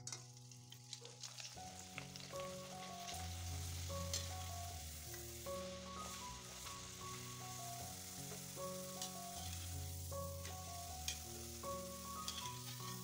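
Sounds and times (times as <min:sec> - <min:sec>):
background music: 0:00.0 - 0:13.0
food sizzling in hot oil: 0:00.0 - 0:13.0.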